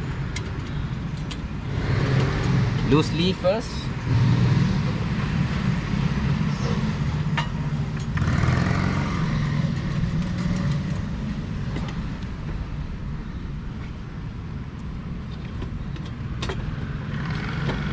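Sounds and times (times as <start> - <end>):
low traffic rumble: 0.0 - 17.9.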